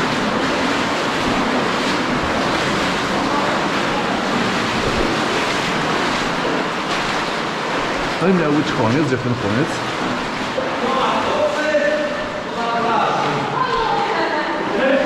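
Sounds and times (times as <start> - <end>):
underground river rushing: 0.0 - 15.0.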